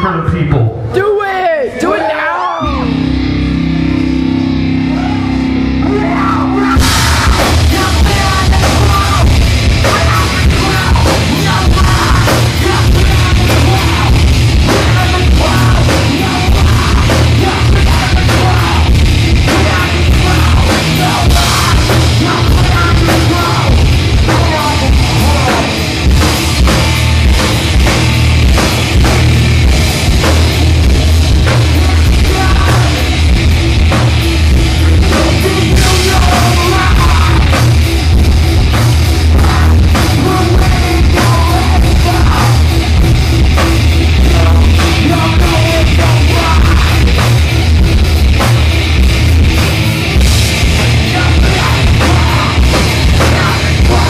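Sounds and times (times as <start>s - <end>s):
heavy rock band playing: 0.0s - 54.0s
lone electric guitar: 2.5s - 54.0s.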